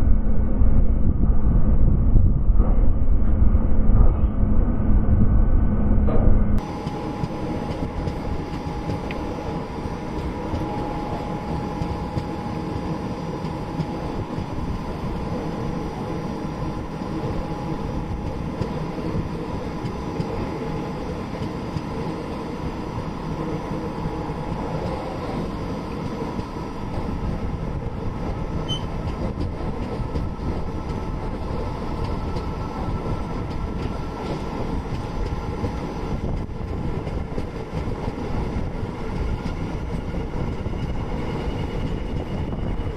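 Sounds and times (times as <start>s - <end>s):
train wheels rumbling on track: 6.0s - 42.9s.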